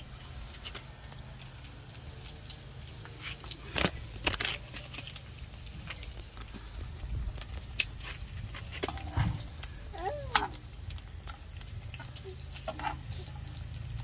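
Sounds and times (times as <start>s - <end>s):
fish frying in oil: 0.0s - 14.0s.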